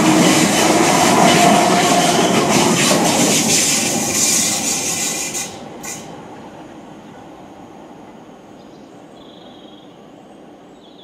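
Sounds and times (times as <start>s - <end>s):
electric train rumble: 0.0s - 10.9s.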